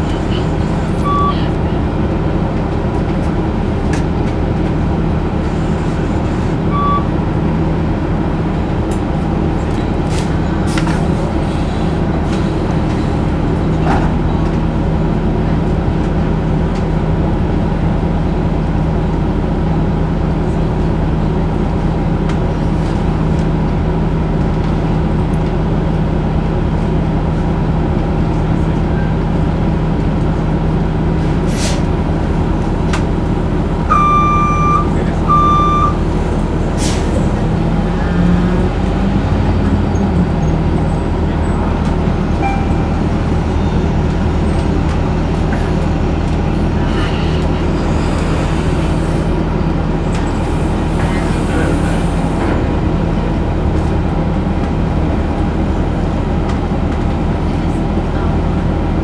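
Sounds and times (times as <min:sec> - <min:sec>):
bus drivetrain hum: 0:00.0 - 0:59.0.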